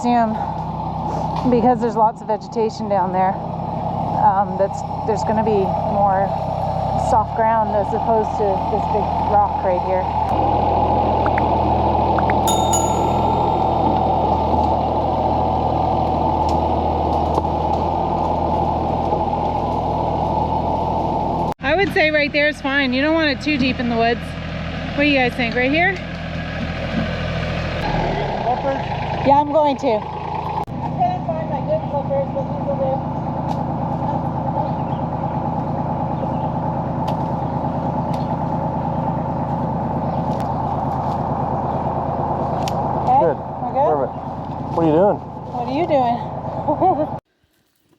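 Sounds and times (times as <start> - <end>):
diesel engine running: 0.0 - 12.2, 14.0 - 47.2.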